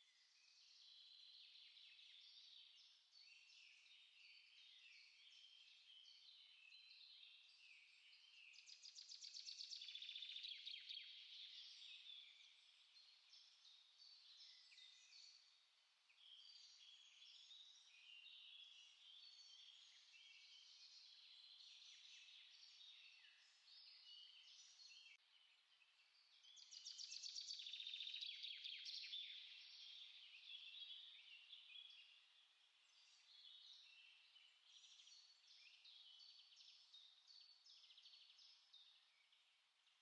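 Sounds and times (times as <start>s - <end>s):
small songbirds chirping: 0.0s - 40.0s.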